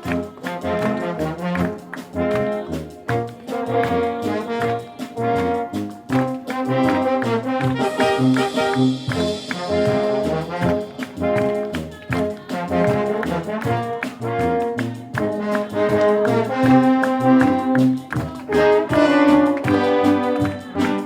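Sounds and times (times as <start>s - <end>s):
trombones and trumpets: 0.0s - 21.0s
wind band playing: 0.0s - 21.0s.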